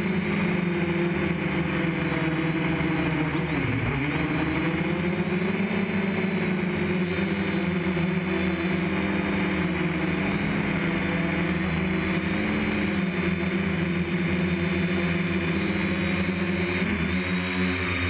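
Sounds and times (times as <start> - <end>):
drone propellers whirring: 0.0 - 18.0.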